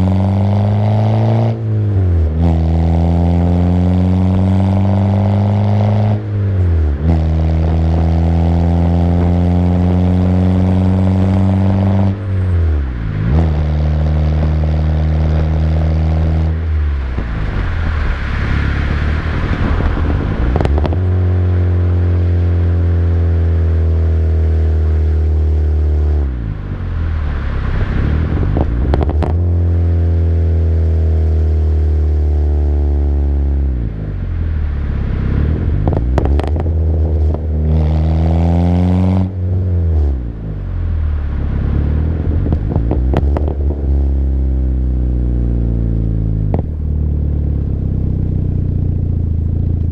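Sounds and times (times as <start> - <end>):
car exhaust drone: 0.0 - 49.9.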